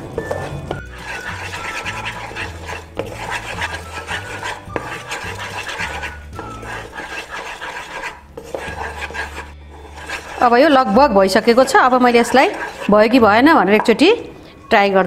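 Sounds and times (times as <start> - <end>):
spatula scraping a pan: 0.0 - 13.5.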